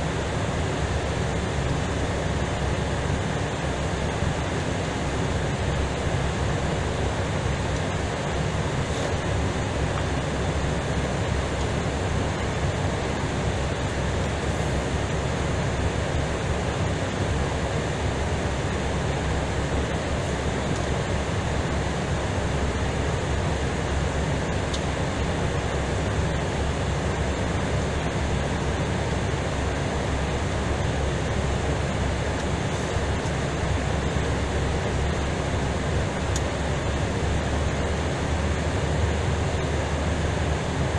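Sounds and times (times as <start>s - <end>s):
aircraft cockpit rumble: 0.0s - 40.9s.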